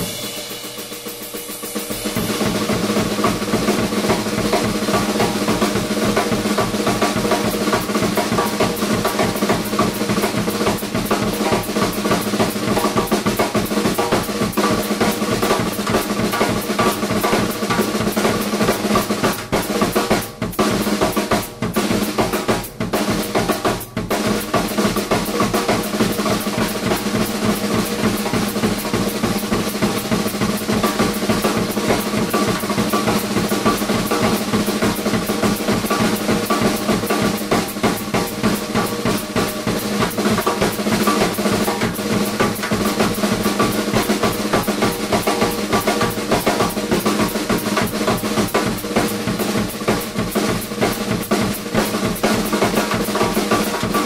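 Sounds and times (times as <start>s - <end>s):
drum kit solo: 0.0s - 54.0s.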